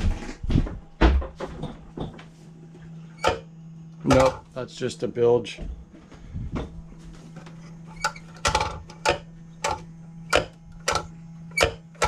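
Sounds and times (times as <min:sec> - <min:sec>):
electric pump humming: 0:00.0 - 0:12.0.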